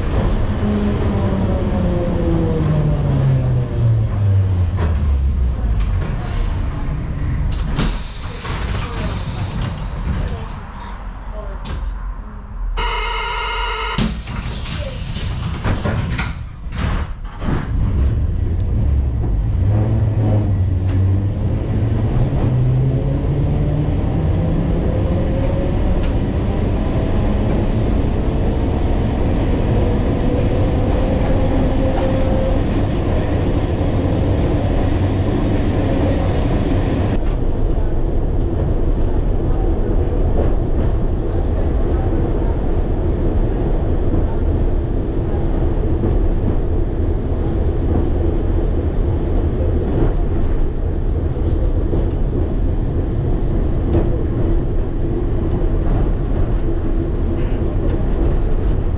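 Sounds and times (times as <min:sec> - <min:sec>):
wheels rumbling on rails: 0:00.0 - 0:12.8, 0:14.0 - 0:58.9.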